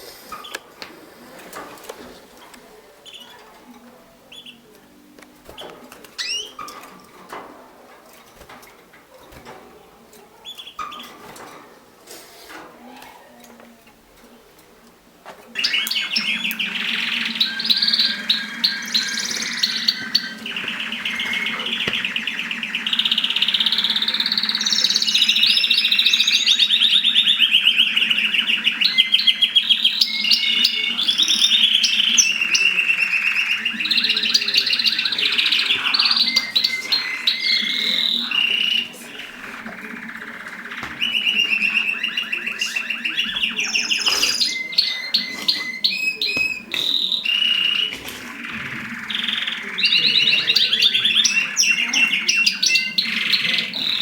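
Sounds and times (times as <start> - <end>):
canary singing trills: 2.7 - 7.4, 9.3 - 11.4, 15.5 - 54.0.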